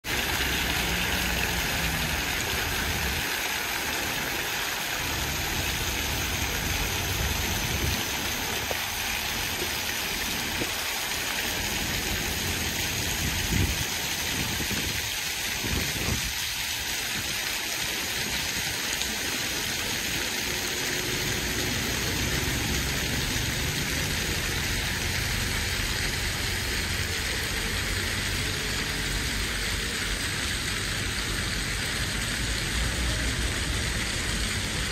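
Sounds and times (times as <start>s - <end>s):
fountain jets splashing: 0.0s - 34.9s
low rumble of street traffic: 0.0s - 34.9s.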